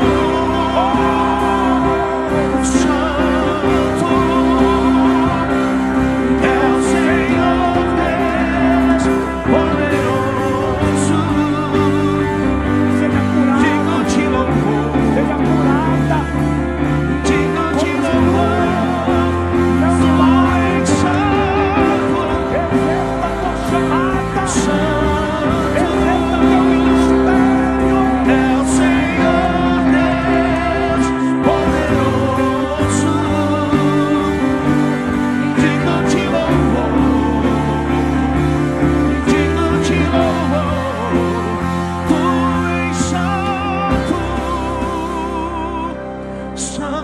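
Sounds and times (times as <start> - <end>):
person singing long notes: 0.0 - 47.0
sustained keyboard chords: 0.0 - 47.0.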